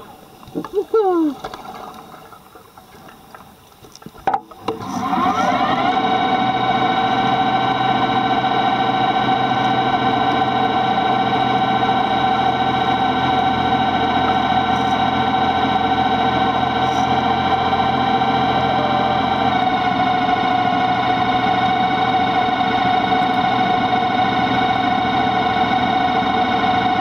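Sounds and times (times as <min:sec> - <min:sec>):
underwater motor droning hum: 0:00.0 - 0:27.0.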